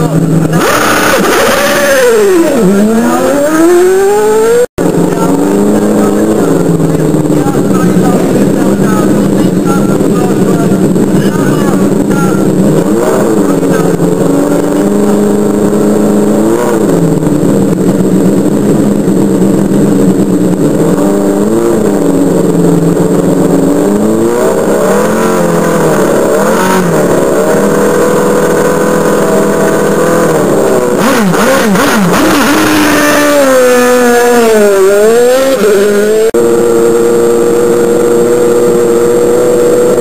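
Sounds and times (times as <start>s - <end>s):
race car engine idling and revving: 0.0s - 40.0s.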